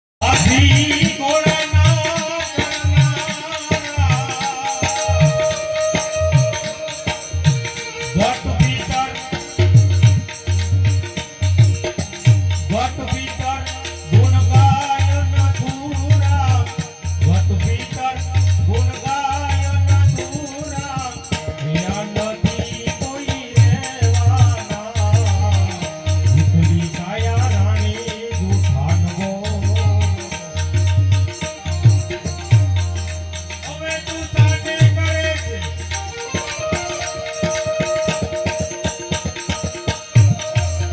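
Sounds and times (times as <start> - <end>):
rattling hand percussion: 0.2 - 40.9.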